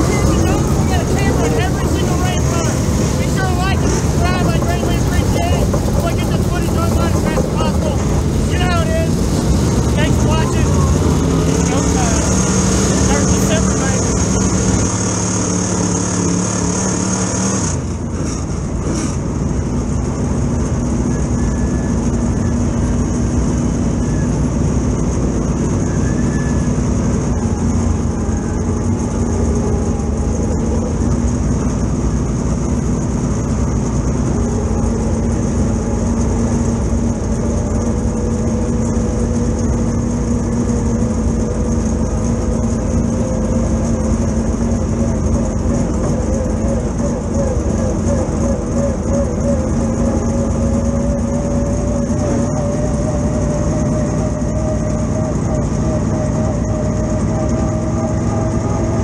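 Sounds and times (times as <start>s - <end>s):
engine droning from inside car: 0.0s - 59.0s.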